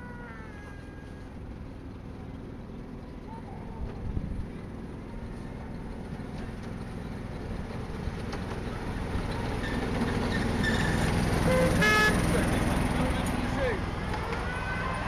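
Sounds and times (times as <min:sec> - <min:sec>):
miniature train wheels rumbling: 0:00.6 - 0:15.0.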